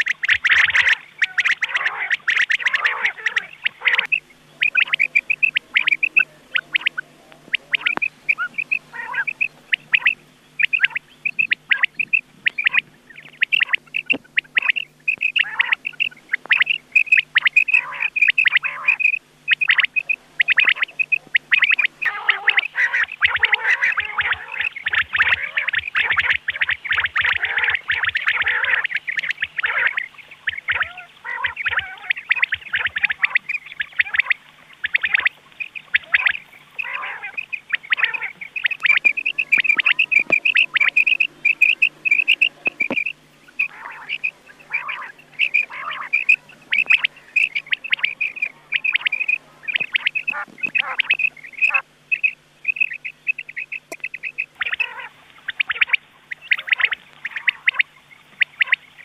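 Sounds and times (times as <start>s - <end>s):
quail calls: 0.0s - 59.0s.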